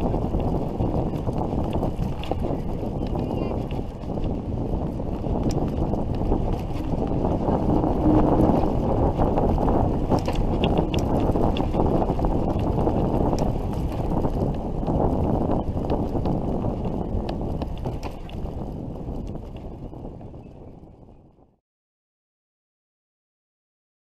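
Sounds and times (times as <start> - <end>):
bicycle tyre noise: 0.0 - 21.3
wind buffeting microphone: 0.0 - 21.6.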